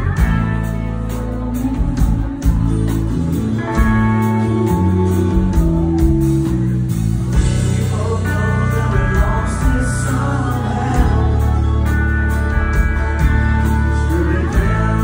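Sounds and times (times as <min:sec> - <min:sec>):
bass line: 0:00.0 - 0:15.0
country band playing: 0:00.0 - 0:15.0
electric guitar: 0:00.0 - 0:15.0.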